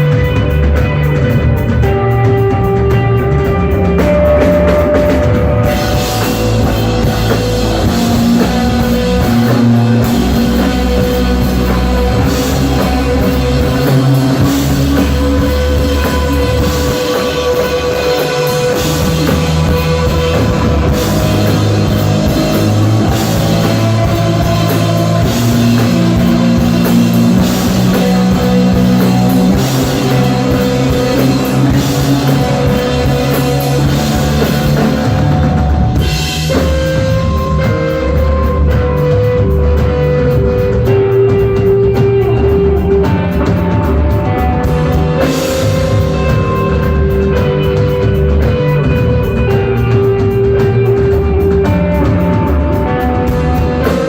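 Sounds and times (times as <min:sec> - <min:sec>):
bass guitar low notes: 0:00.0 - 0:54.0
drum kit: 0:00.0 - 0:54.0
electric guitar: 0:00.0 - 0:54.0.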